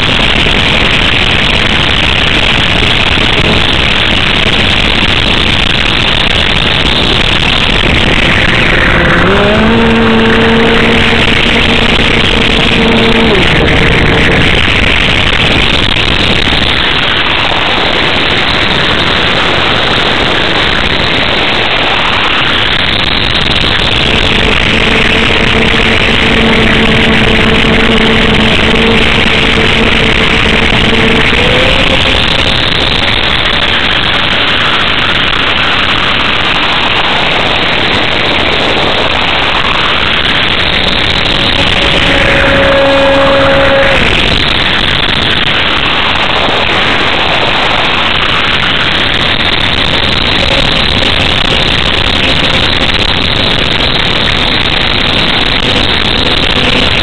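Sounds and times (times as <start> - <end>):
electric motor and propeller humming: 0.0 - 35.2, 37.0 - 57.0
wind rushing over microphone: 0.0 - 57.0.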